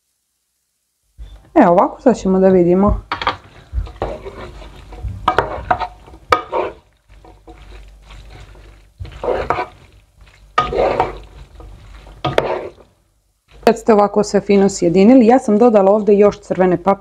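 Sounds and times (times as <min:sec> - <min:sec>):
wet stirring of beans: 0:03.0 - 0:17.0.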